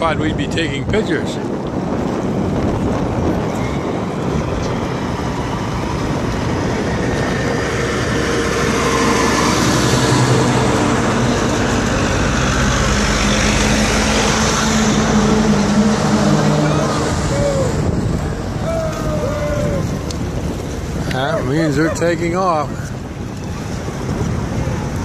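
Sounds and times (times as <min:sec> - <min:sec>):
rushing noise: 0:01.4 - 0:25.0
engine running: 0:01.7 - 0:21.8.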